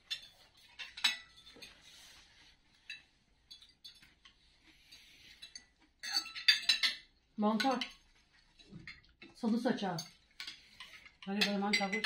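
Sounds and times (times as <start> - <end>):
cutlery clinking on plates: 0.0 - 1.9, 2.8 - 8.0, 8.6 - 12.0.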